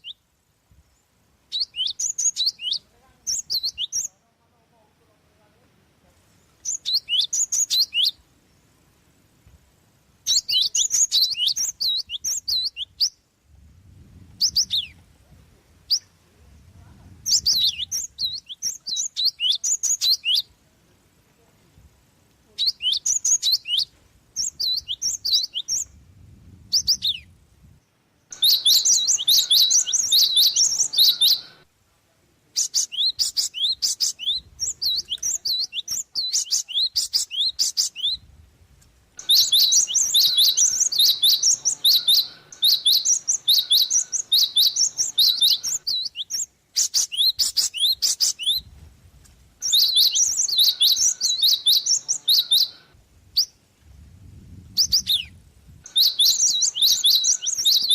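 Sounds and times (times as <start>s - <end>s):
songbird chirping: 0.0s - 13.5s, 14.1s - 57.9s.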